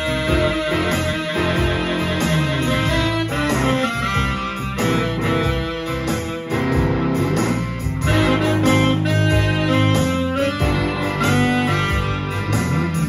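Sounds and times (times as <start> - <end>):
digital keyboard: 0.0 - 13.0
electric guitar playing blues: 0.0 - 13.0.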